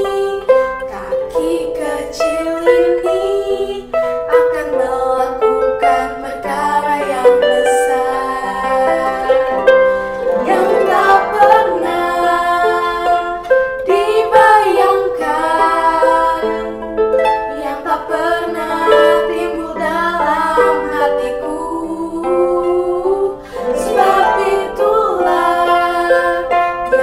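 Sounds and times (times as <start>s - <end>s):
children's worship song singing: 0.0s - 27.0s
instrumental accompaniment: 0.0s - 27.0s.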